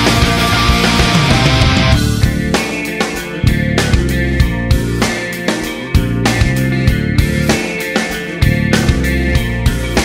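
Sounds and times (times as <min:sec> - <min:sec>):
distorted electric guitar: 0:00.0 - 0:10.0
heavy rock music: 0:00.0 - 0:10.0.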